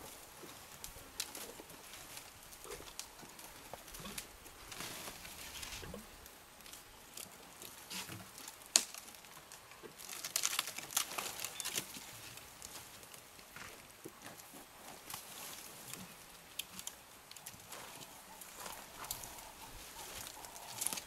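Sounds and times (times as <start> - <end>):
branches crackling and snapping: 0.0 - 21.0.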